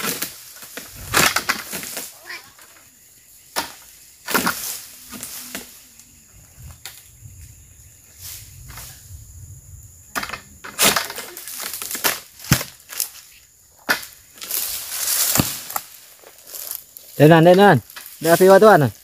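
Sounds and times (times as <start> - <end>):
dry palm fronds rustling: 0.0 - 9.2, 10.2 - 19.0.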